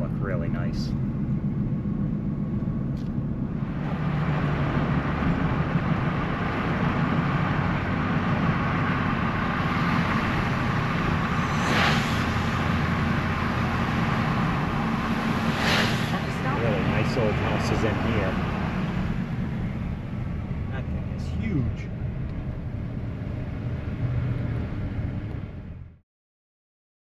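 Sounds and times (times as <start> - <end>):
road and wind hiss: 0.0 - 25.8
engine and tyre rumble: 0.0 - 26.0.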